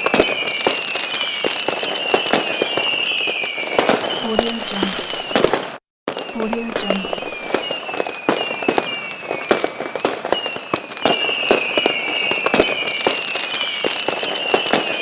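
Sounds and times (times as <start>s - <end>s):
firework rockets whistling: 0.0s - 15.0s.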